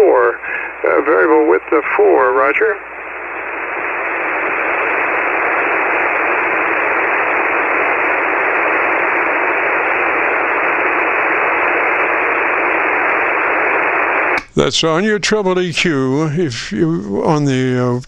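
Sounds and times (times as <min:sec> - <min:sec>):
radio receiver static hiss: 0:00.0 - 0:18.0.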